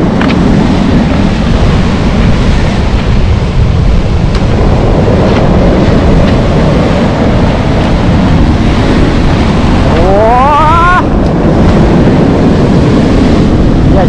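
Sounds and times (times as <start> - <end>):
sea waves breaking: 0.0 - 14.0
wind buffeting microphone: 0.0 - 14.0.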